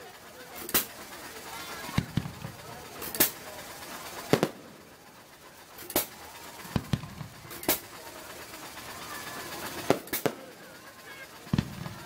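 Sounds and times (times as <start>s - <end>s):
fireworks bursting with bangs: 0.6s - 12.0s.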